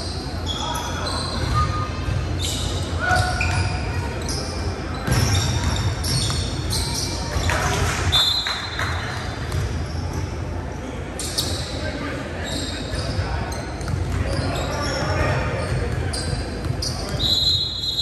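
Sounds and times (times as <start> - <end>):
sneakers squeaking: 0.0 - 18.0
players' voices echoing: 0.1 - 17.6.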